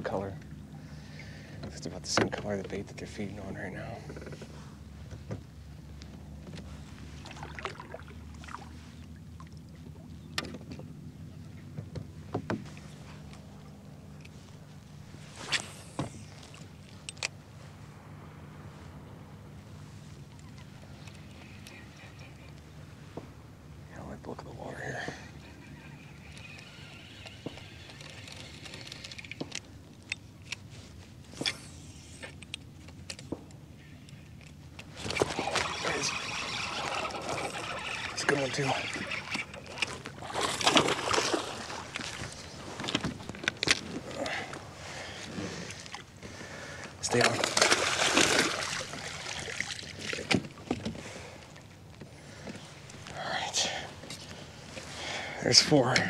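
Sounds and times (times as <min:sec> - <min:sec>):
kayak pedal drive humming: 0:00.0 - 0:56.0.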